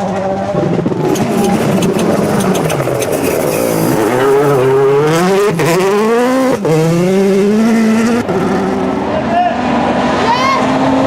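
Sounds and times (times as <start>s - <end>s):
car engine accelerating through gears: 0.0s - 11.0s.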